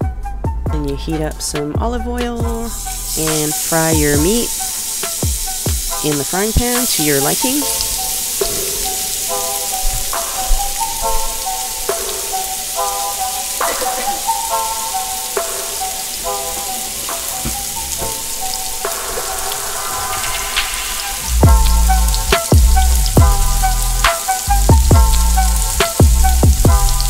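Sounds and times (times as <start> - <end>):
light background music: 0.0 - 27.0
steaks sizzling in frying pan: 2.7 - 27.0.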